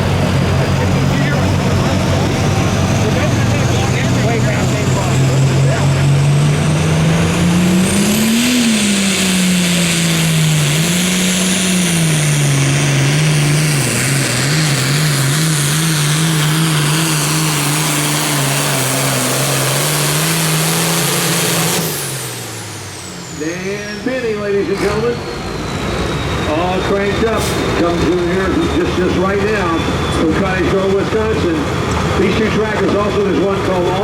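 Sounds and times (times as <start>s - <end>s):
diesel tractor engine under load: 0.0s - 34.0s.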